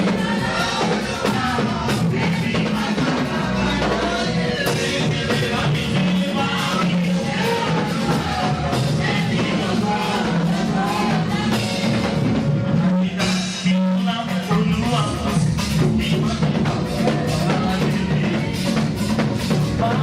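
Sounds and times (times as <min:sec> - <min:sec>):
drum kit beat: 0:00.0 - 0:20.0
voices singing praise music: 0:00.0 - 0:20.0.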